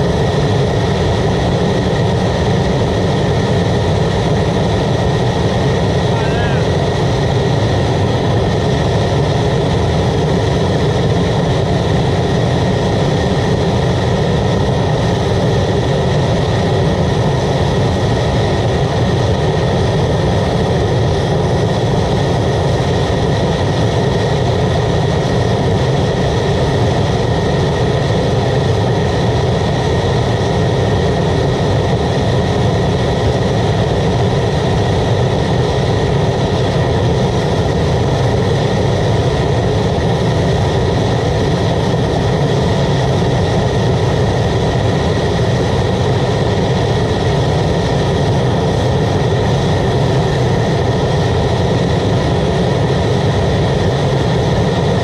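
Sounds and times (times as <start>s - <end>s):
oil burner roaring: 0.0s - 55.0s.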